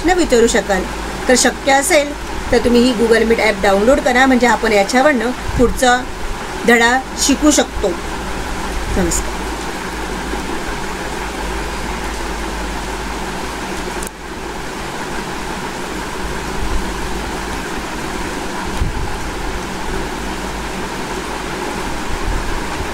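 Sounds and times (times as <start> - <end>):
steady rushing noise: 0.0 - 22.9.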